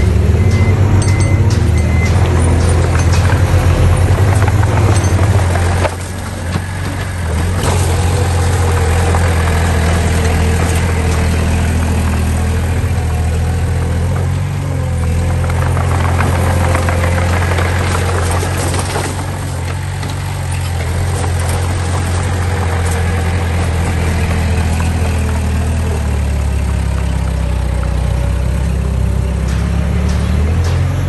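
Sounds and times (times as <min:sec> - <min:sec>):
diesel engine running: 0:00.0 - 0:31.0
rattles and clanks: 0:00.0 - 0:31.0.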